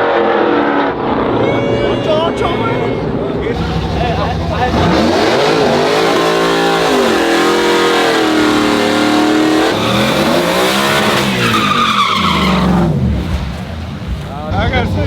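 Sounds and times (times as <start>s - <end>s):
truck engines at full throttle: 0.0s - 15.0s.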